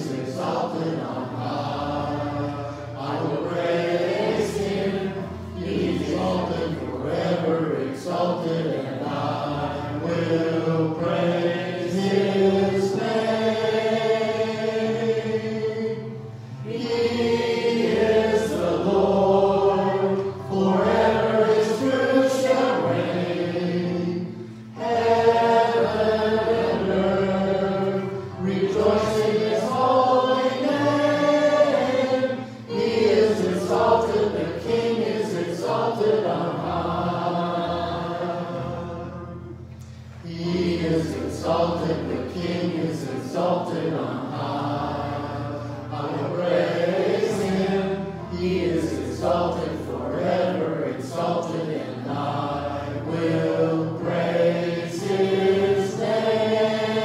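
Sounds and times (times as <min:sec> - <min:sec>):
congregation singing: 0:00.0 - 0:57.0.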